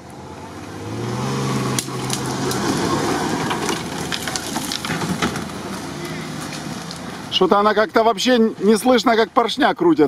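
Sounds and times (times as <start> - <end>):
twigs crackling under tyres: 0.0 - 9.2.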